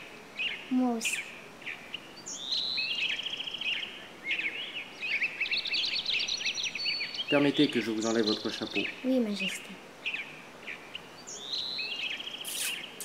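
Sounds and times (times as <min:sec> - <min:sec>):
faint hiss: 0:00.0 - 0:13.0
songbirds chirping and trilling: 0:00.0 - 0:13.0.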